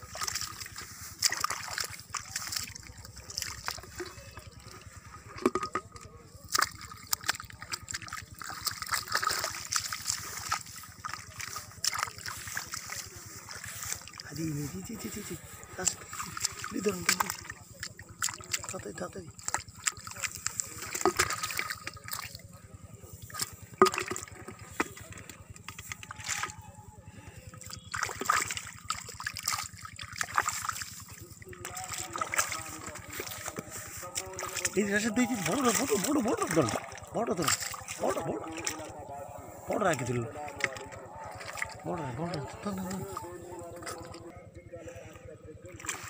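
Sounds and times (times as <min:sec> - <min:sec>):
hands splashing in shallow water: 0:00.0 - 0:44.3, 0:45.7 - 0:46.0.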